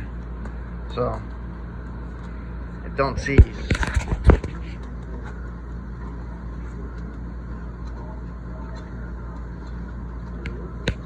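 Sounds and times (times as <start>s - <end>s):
low background rumble and hum: 0.0s - 11.0s.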